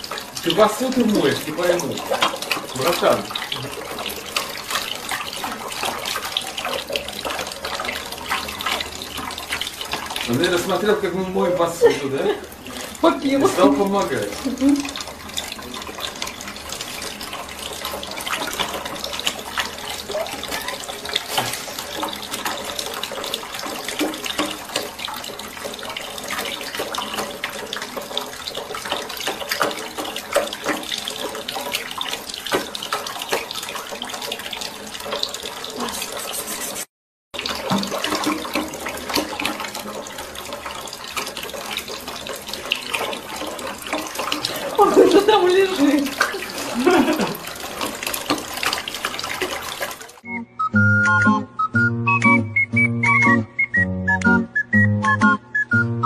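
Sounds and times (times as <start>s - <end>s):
tap water splashing onto plate: 0.0s - 36.4s, 37.4s - 50.2s.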